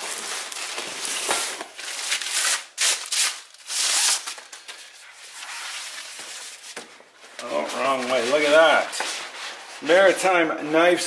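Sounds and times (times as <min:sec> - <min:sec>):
bubble wrap and cardboard crinkling: 0:00.0 - 0:11.0.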